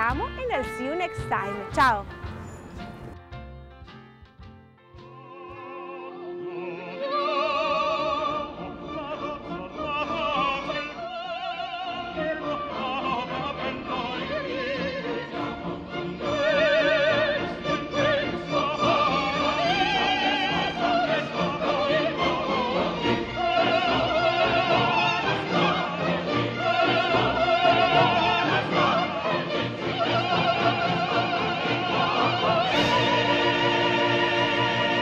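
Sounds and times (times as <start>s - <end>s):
classical accompaniment: 0.0s - 35.0s
operatic singing with vibrato: 5.2s - 35.0s.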